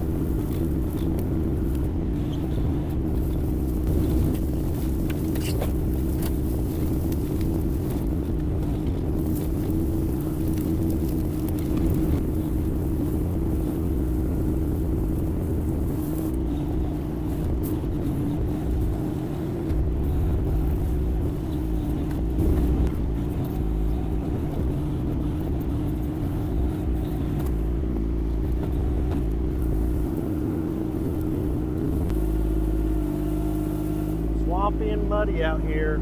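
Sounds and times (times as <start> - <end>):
diesel engine running under load: 0.0 - 36.0.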